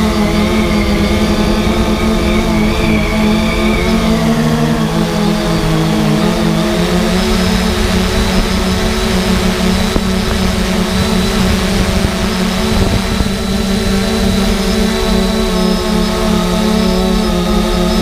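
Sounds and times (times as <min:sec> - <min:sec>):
drone rotors humming: 0:00.0 - 0:18.0
wind buffeting microphone: 0:00.0 - 0:18.0.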